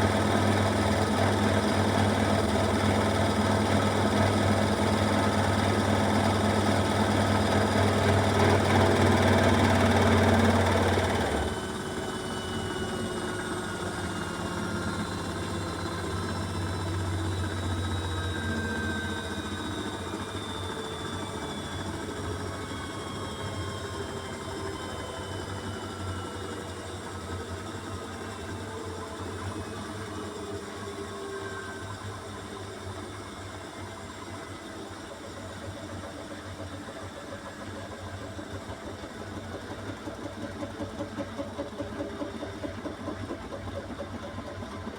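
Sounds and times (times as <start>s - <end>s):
washing machine drum whine: 0.0s - 39.1s
washing machine spinning and rattling: 0.0s - 44.9s.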